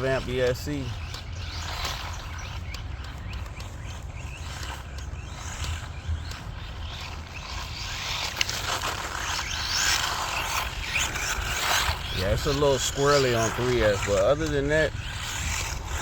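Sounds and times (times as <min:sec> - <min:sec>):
scattered ticks: 0:00.0 - 0:16.0
toy truck motor whine: 0:00.0 - 0:16.0.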